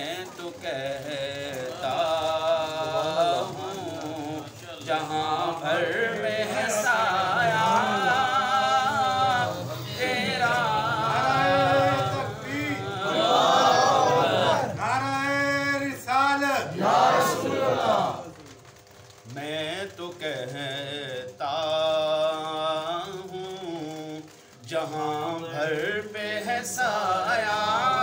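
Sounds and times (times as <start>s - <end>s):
man singing unaccompanied: 0.0s - 18.1s, 19.3s - 28.0s.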